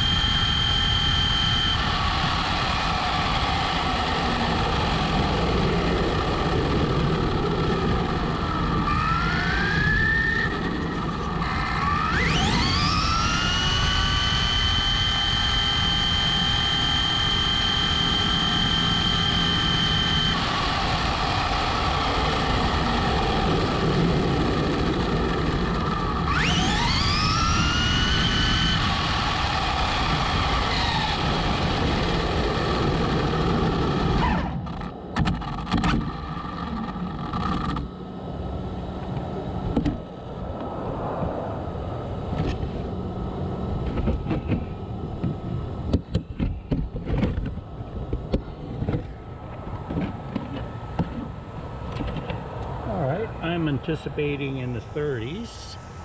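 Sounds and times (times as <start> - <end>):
electric motor whine: 0.0 - 56.0
rush of tyres and wind: 0.0 - 56.0.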